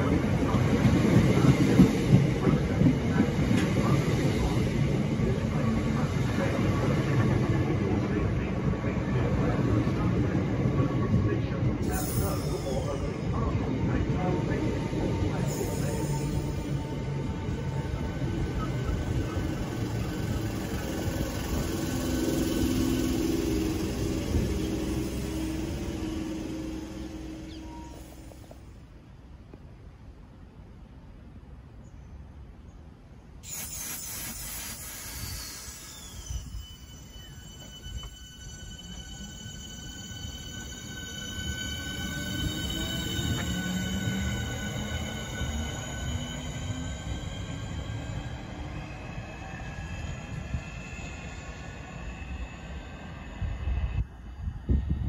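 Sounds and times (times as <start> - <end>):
train wheels rumbling on rail: 0.0 - 29.7, 33.5 - 55.0.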